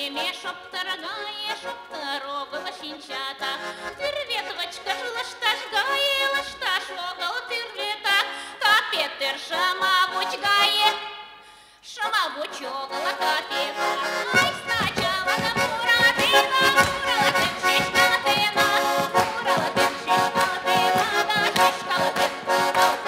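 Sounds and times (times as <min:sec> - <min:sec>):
woman singing folk song: 0:00.0 - 0:11.2, 0:11.8 - 0:23.0
accordion: 0:00.0 - 0:23.0.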